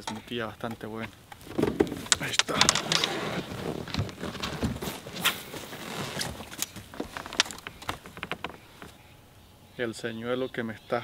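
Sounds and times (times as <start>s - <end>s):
knocks and clicks of handled gear: 0.0s - 9.0s.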